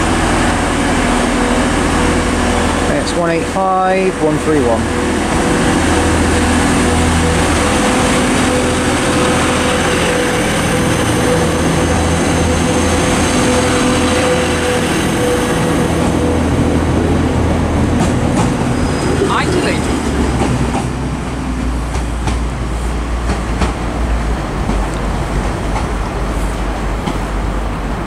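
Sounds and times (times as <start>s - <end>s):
diesel train engine drone: 0.0s - 28.0s
train noise: 0.0s - 28.0s.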